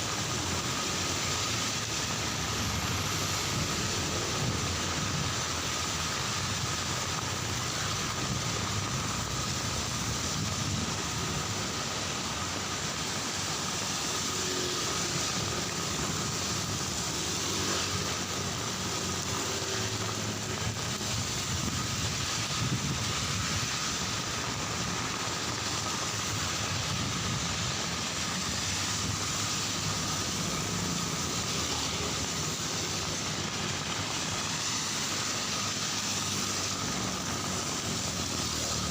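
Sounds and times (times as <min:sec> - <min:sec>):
road traffic passing: 0:00.0 - 0:38.9
steady rain falling: 0:00.0 - 0:38.9.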